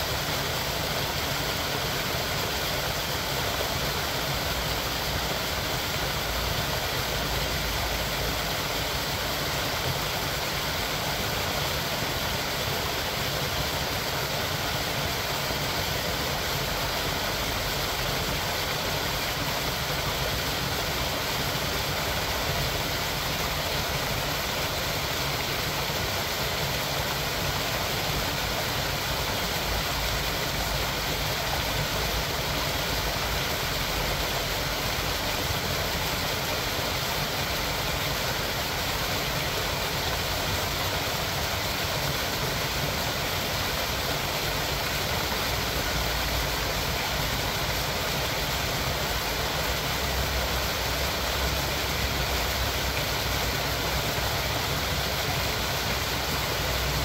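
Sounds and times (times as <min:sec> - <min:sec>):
small waterfall rushing: 0:00.0 - 0:57.0.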